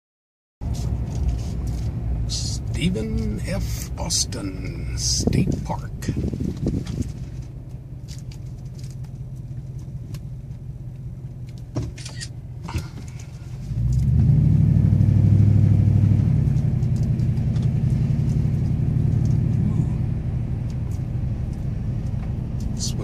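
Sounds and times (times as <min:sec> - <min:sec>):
car engine and road rumble: 0:00.6 - 0:23.0.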